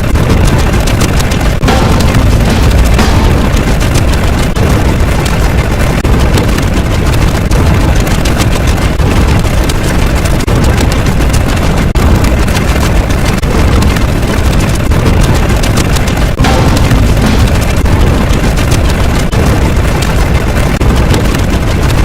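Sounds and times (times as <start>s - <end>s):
loud bassy rumbling: 0.0s - 22.0s.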